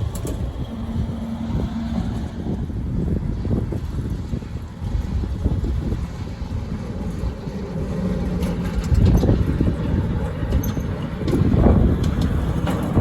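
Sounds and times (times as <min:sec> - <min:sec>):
miniature locomotive rumbling: 0:00.0 - 0:13.0.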